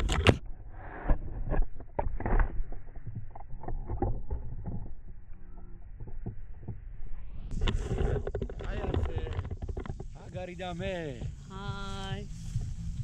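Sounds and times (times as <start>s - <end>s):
muffled low vehicle rumble: 0.0s - 13.0s.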